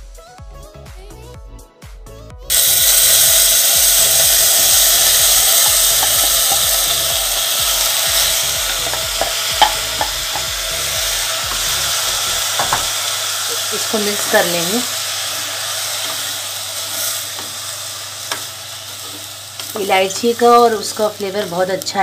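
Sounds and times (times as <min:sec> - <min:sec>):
rice sizzling in hot ghee: 0:02.5 - 0:22.0.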